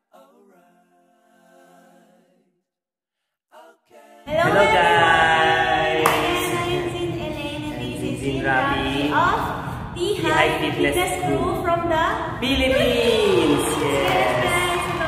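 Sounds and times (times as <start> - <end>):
voices singing unaccompanied: 0.0 - 2.5, 3.5 - 15.0.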